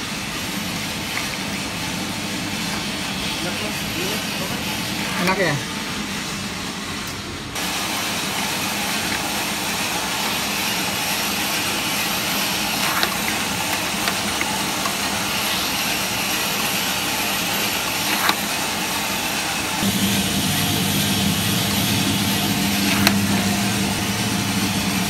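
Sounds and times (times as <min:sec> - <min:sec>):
coffee roaster rushing: 0:00.0 - 0:25.0.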